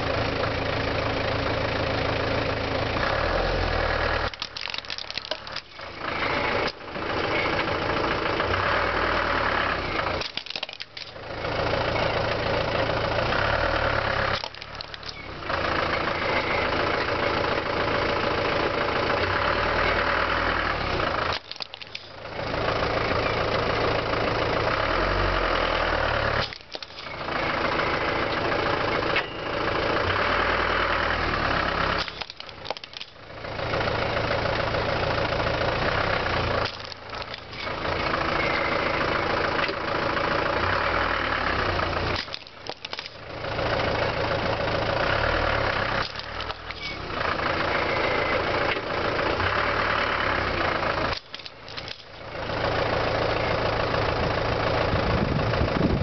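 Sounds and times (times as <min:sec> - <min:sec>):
van engine idling and moving: 0:00.0 - 0:56.0.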